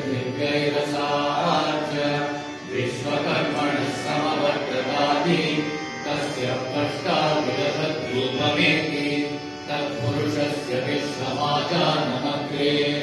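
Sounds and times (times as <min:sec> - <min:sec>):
devotional chanting voices: 0:00.0 - 0:13.0
instrumental accompaniment: 0:00.0 - 0:13.0.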